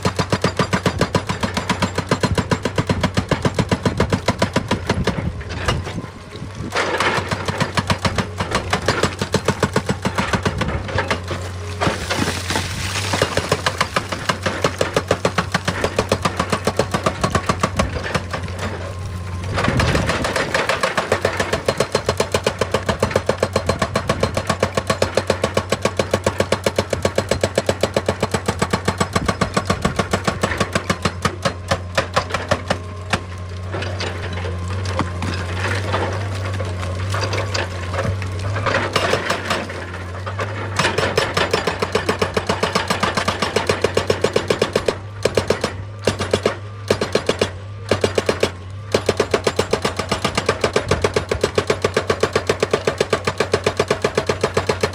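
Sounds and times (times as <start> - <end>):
hydraulic breaker hammering stone: 0.0 - 6.0, 6.6 - 18.9, 19.5 - 54.9
diesel engine hum: 1.3 - 54.9.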